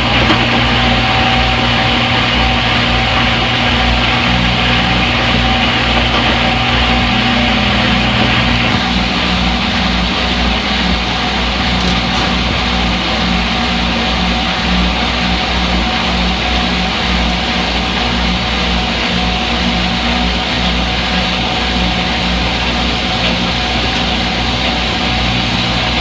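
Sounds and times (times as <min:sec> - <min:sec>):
washing machine whirring: 0:00.0 - 0:26.0.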